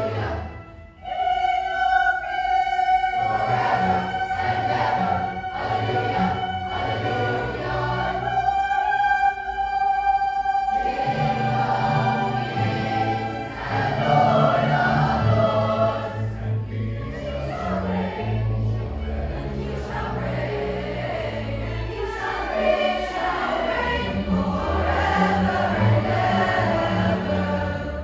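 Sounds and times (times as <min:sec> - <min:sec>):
choir singing: 0:00.0 - 0:28.0
string orchestra: 0:00.0 - 0:28.0.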